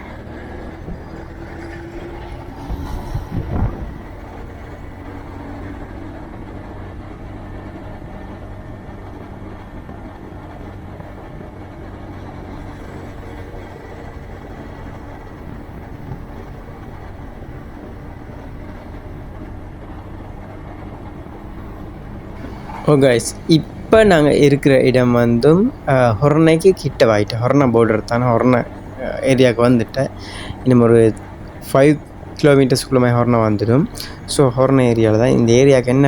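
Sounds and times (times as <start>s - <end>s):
motorcycle engine cruising: 0.0s - 36.0s
road and wind noise: 0.0s - 36.0s.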